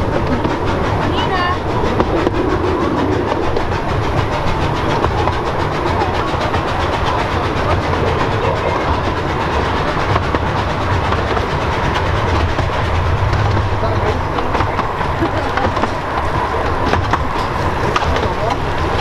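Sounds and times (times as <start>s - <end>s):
rapid irregular clicking: 0.0s - 19.0s
train wheels rumbling on rails: 0.0s - 19.0s.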